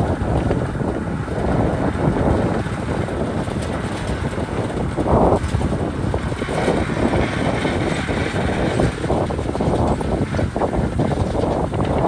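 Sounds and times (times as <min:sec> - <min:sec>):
bulldozer diesel engine rumble: 0:00.0 - 0:12.0.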